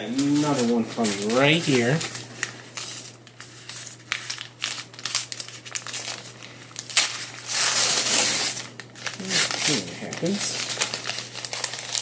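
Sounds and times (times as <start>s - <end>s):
paper mailer crinkling: 0.0s - 12.0s.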